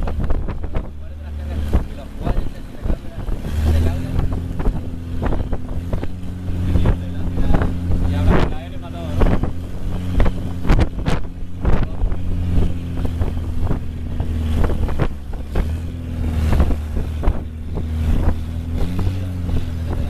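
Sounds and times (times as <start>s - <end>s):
boat engine running: 0.0s - 20.0s
water slapping against hull: 0.0s - 20.0s.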